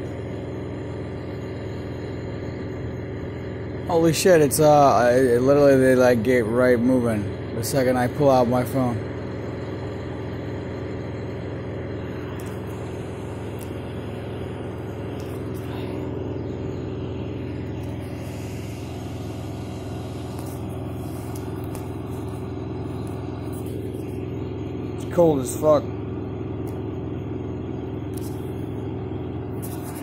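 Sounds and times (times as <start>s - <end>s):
vehicle engine droning: 0.0s - 30.0s.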